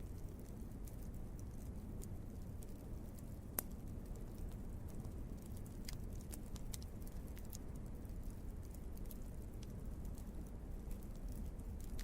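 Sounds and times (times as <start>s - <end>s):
fire low rumble: 0.0s - 12.0s
logs crackling and popping: 0.0s - 12.0s.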